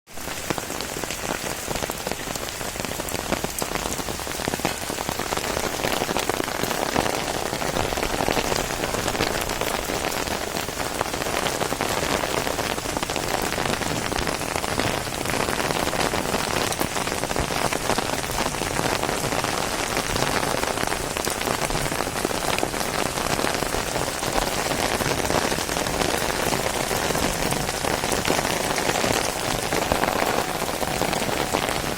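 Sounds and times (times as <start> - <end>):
heavy rain falling: 0.1 - 31.9.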